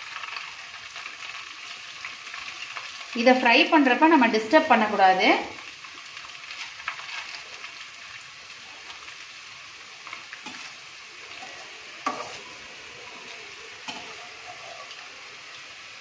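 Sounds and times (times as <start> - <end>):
noodles sizzling in hot oil: 0.0 - 16.0.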